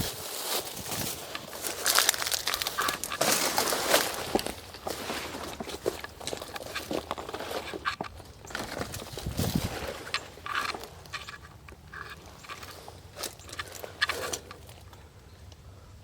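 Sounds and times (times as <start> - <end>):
footsteps on dry trail: 0.0 - 15.0
leaves and twigs crackling: 0.0 - 15.0.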